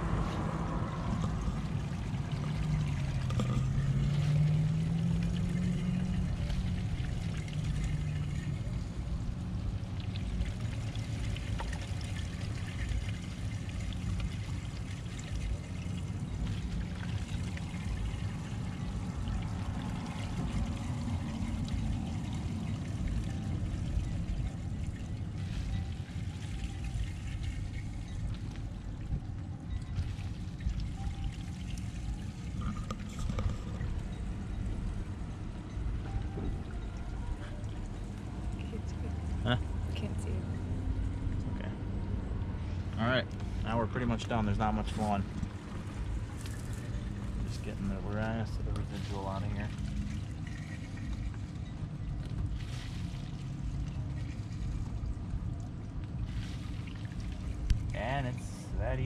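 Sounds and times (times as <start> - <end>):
water gushing into drain: 0.0 - 39.9, 43.7 - 59.0.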